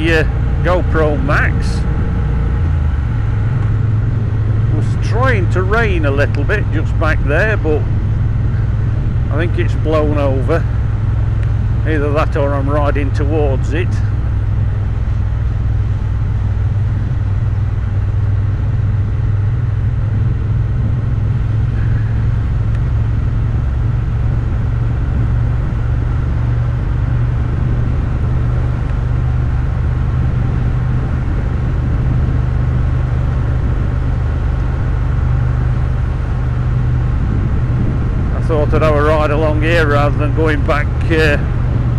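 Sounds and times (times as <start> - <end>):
motorcycle engine droning: 0.0 - 41.9
road noise: 0.0 - 41.9
wind: 0.0 - 41.9.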